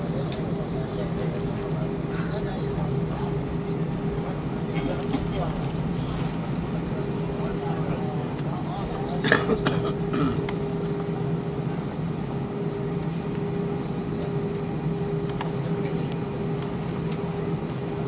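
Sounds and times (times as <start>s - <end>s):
aircraft engine hum: 0.0s - 18.0s.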